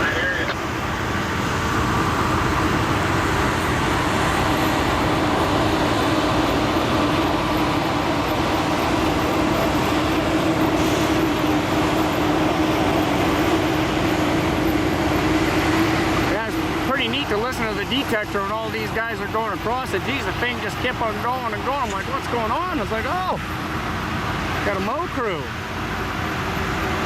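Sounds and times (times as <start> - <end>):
engines droning hum: 0.0 - 27.0.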